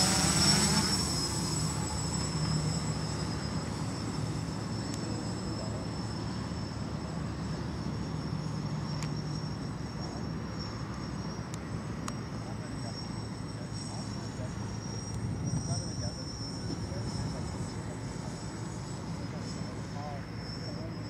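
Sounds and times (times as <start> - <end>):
quadcopter propeller buzz: 0.0 - 21.0.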